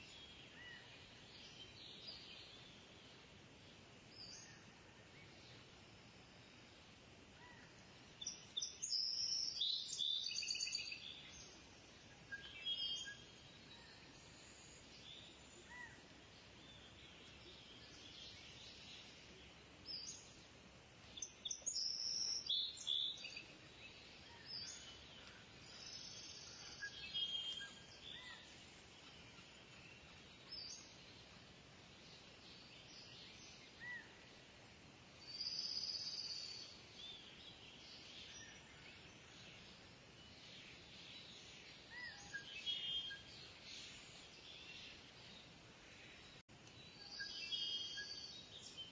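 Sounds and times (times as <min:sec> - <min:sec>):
faint hiss: 0:00.0 - 0:48.9.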